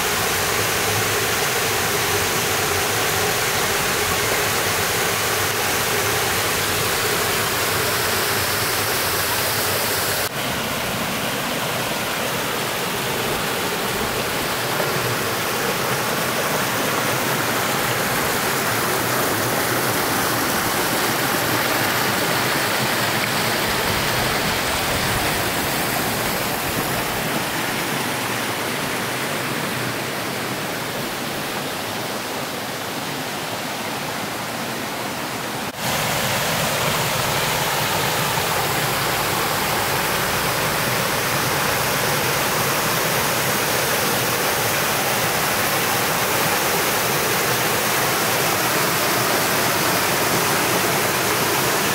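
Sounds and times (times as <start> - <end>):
creek water rushing over rocks: 0.0 - 51.9.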